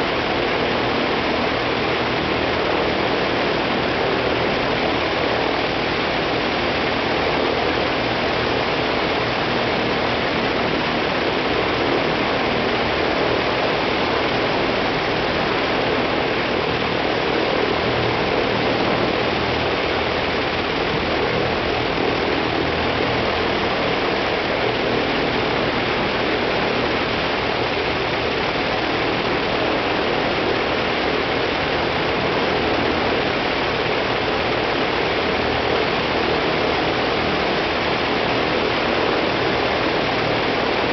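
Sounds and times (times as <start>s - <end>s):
aircraft engine rumbling: 0.0s - 40.9s
propeller rushing noise: 0.0s - 40.9s.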